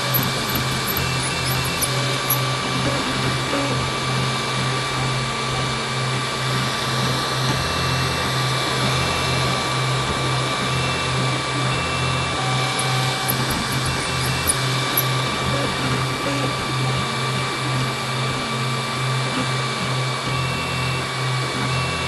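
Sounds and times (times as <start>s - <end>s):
low pulsing hum: 0.0s - 20.3s
cooling fans whirring: 0.0s - 22.0s.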